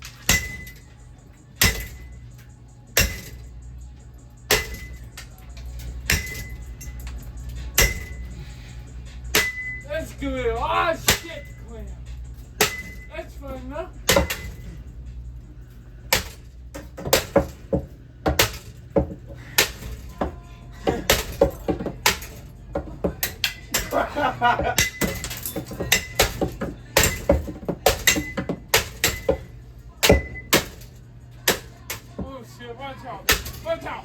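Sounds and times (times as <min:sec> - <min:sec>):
hard blows smashing fan: 0:00.0 - 0:00.9, 0:01.5 - 0:03.6, 0:04.5 - 0:32.5, 0:33.2 - 0:34.0.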